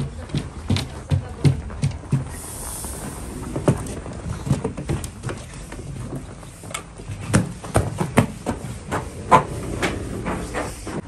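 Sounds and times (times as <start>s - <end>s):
footsteps on grated mat: 0.0s - 11.0s.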